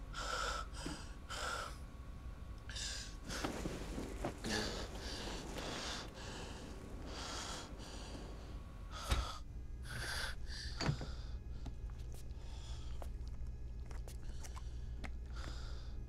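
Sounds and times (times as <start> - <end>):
man breathing heavily: 0.0 - 1.9, 2.7 - 13.1, 14.2 - 16.0.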